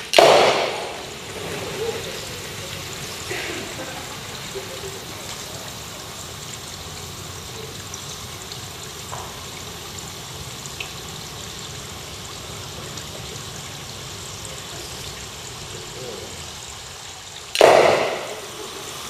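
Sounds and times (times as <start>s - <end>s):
fireworks fountain hissing: 0.0s - 19.0s.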